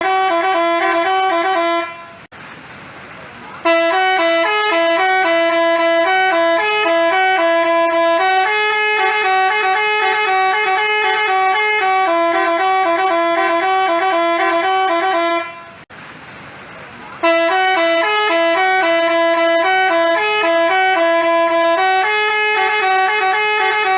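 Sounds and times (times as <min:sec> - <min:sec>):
musical bus horn melody: 0:00.0 - 0:02.3, 0:03.6 - 0:15.9, 0:17.2 - 0:23.9.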